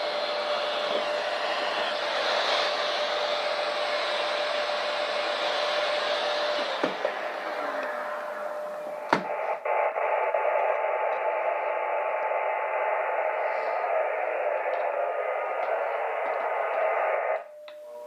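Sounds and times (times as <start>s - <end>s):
radio static hiss: 0.0s - 17.5s.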